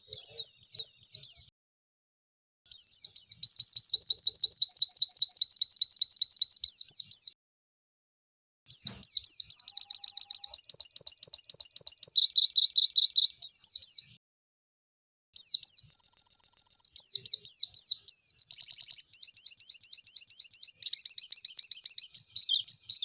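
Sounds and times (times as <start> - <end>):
bird singing fast trills: 0.0 - 1.5, 2.7 - 7.4, 8.7 - 14.2, 15.4 - 23.0.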